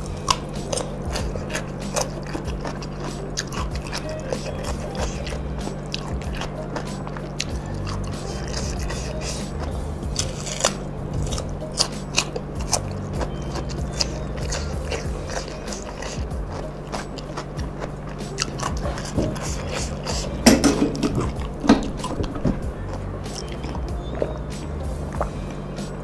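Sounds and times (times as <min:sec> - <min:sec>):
mouth sounds: 0:00.0 - 0:26.0
person chewing crunchy food: 0:00.0 - 0:26.0
quiet background music: 0:00.0 - 0:26.0.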